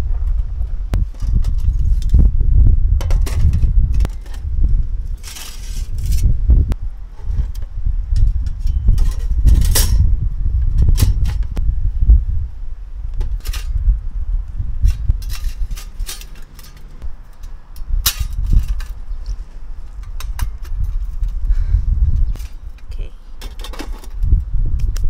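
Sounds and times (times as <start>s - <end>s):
steady low rumble: 0.0s - 23.5s.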